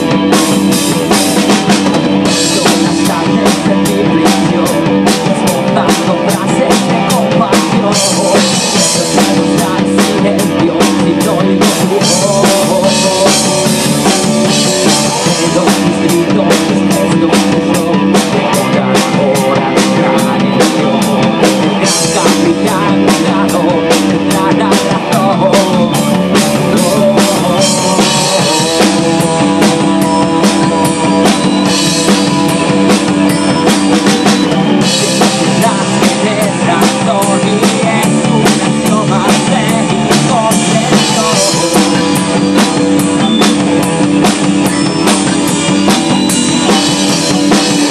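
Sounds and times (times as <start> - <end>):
bass guitar: 0.0 - 47.9
distorted electric guitars: 0.0 - 47.9
drum kit beat: 0.0 - 47.9.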